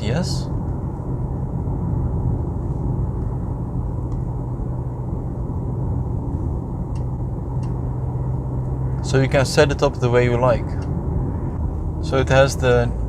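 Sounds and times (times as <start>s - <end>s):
car cabin low rumble: 0.0s - 13.0s
road noise: 0.0s - 13.0s.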